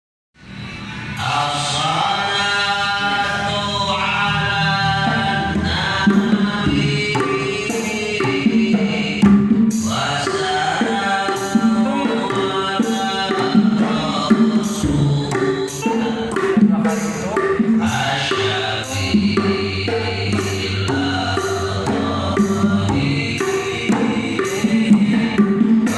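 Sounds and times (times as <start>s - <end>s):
man singing devotional chant: 1.2s - 25.9s
hand drum rhythm: 5.0s - 25.9s.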